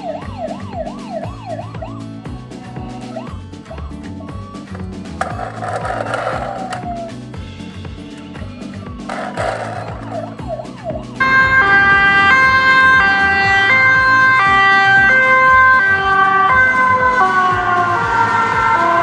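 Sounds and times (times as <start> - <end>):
two-tone ambulance siren: 0.0 - 7.2, 9.1 - 19.0.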